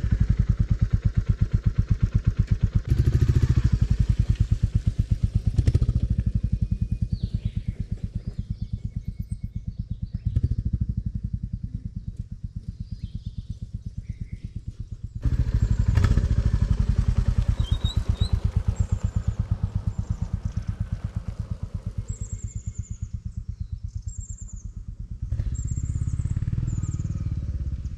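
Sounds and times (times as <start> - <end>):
motorcycle engine running: 0.0 - 27.9
birds chirping: 3.2 - 27.9.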